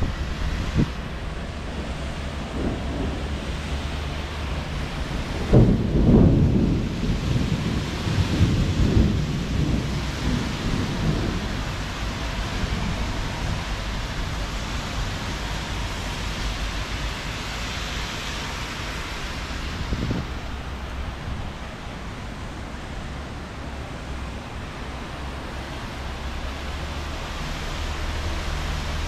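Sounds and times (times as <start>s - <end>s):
rain hissing: 0.0s - 29.0s
thunder rumbling: 0.0s - 29.0s.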